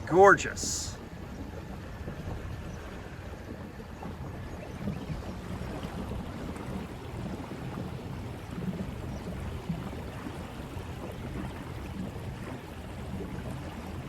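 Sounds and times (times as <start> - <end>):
water wash along boat hull: 0.0 - 14.0.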